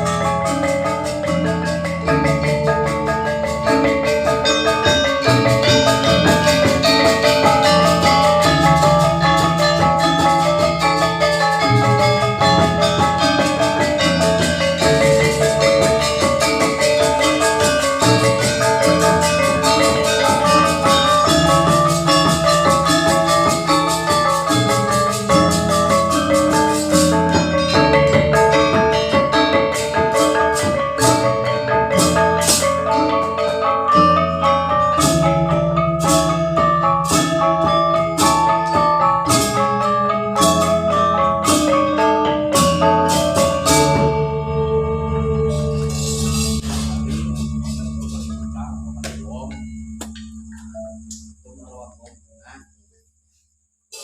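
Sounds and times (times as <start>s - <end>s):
gamelan ensemble playing: 0.0s - 52.0s.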